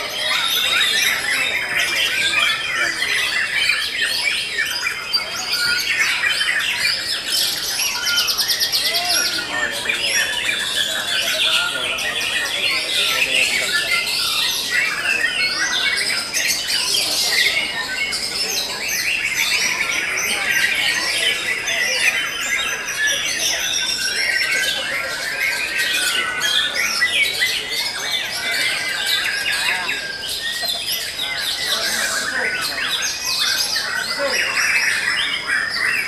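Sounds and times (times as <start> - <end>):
birds singing in chorus: 0.0 - 36.0.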